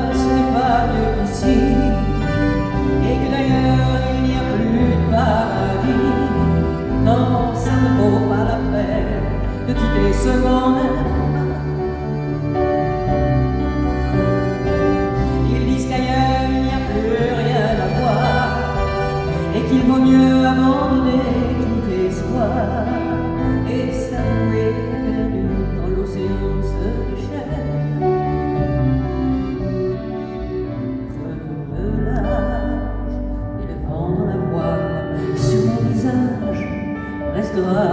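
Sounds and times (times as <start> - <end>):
woman singing slow song: 0.0 - 12.0, 15.3 - 28.2, 31.0 - 37.9
live band playing chords: 0.0 - 31.2
bass guitar: 0.0 - 37.9.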